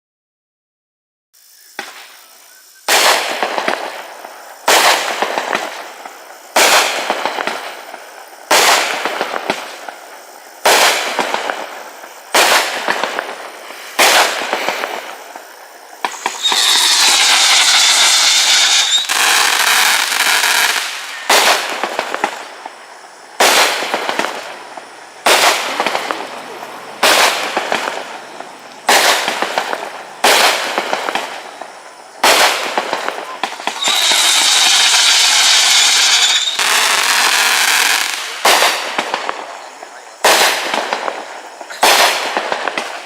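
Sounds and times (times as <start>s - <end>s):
firework crackling and hissing: 1.4s - 43.0s
firework reports with crackle: 1.4s - 43.0s.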